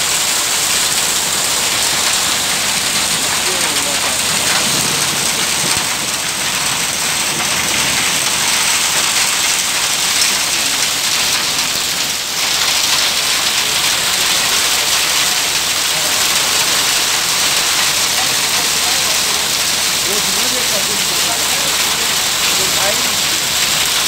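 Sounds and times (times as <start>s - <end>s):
heavy rain and hail: 0.0s - 24.0s.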